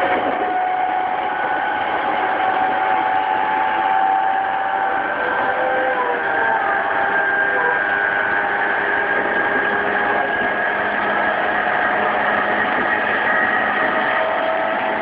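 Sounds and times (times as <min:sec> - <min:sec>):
electric train motor whine: 0:00.0 - 0:15.0
wheels rumbling on rail: 0:00.0 - 0:15.0.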